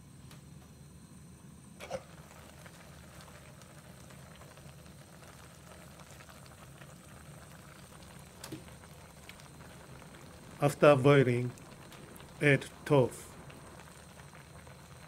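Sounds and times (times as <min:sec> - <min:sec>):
pot bubbling with tiny pops: 0:01.8 - 0:15.0.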